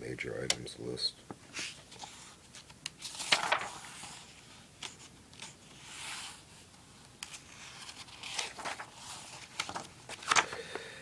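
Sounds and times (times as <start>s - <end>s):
paper pages turning: 1.6s - 10.6s.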